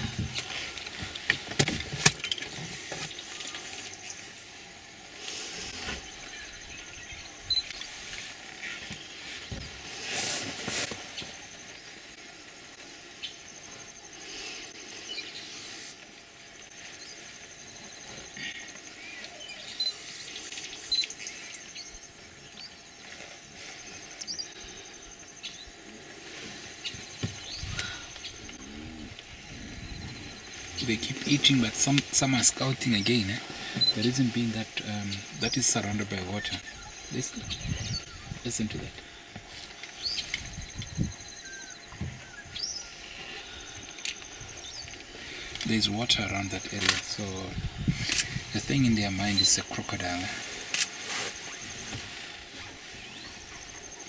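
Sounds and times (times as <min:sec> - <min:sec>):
high insect trill: 0:00.0 - 0:54.0.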